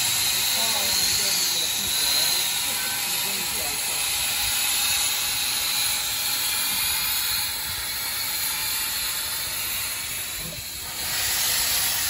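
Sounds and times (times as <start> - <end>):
steam jetting from cylinder cocks: 0.0 - 12.0
steam locomotive hissing: 0.0 - 12.0.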